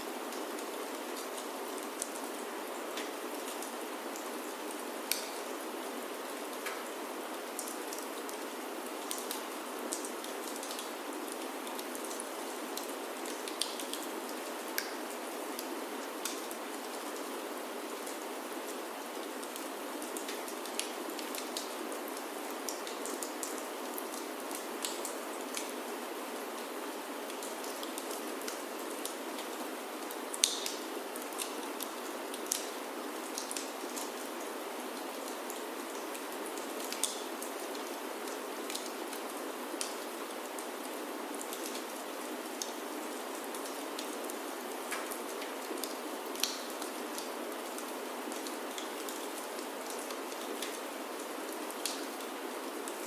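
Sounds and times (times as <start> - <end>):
rain on wooden roof: 0.0 - 53.0.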